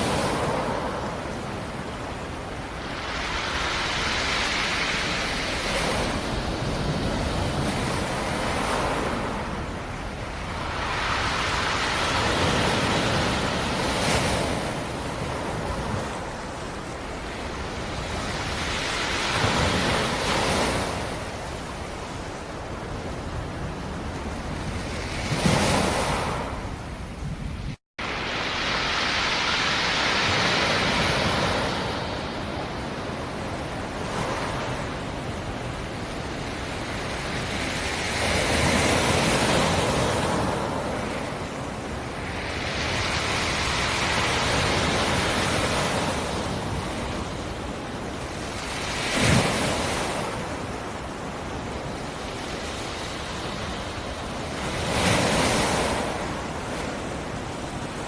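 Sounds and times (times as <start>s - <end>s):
waves breaking on shore: 0.0s - 58.0s.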